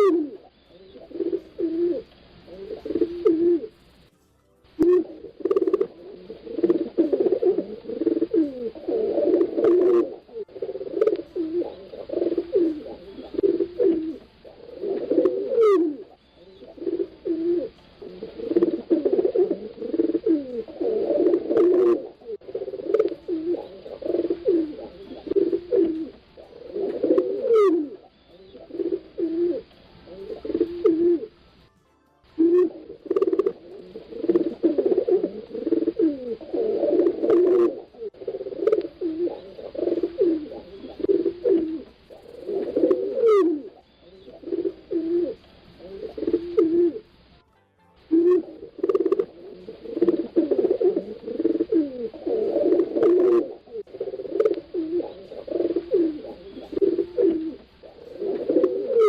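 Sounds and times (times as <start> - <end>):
pigeons cooing: 0.0 - 4.1, 4.8 - 31.5, 32.4 - 47.3, 48.1 - 59.0.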